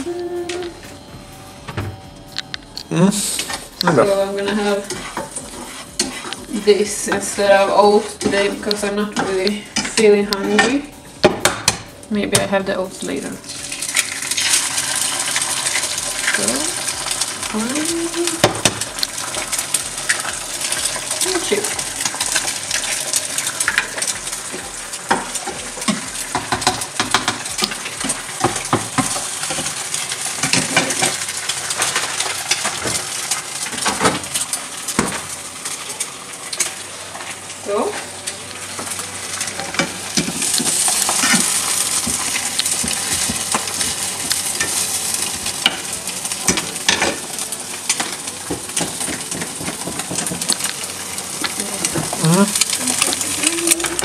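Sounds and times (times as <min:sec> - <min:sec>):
eggs frying in butter: 0:02.8 - 0:54.0.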